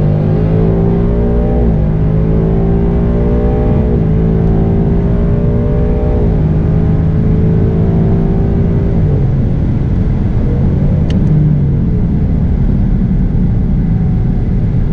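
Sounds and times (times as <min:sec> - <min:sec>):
car engine revving: 0:00.0 - 0:14.9
low road rumble: 0:00.0 - 0:14.9.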